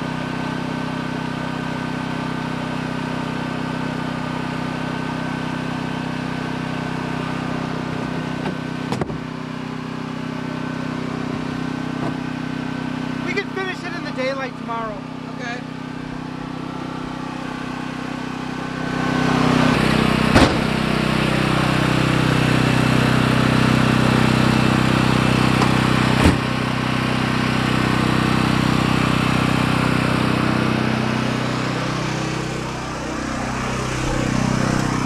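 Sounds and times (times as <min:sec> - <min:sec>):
generator engine humming: 0:00.0 - 0:35.0.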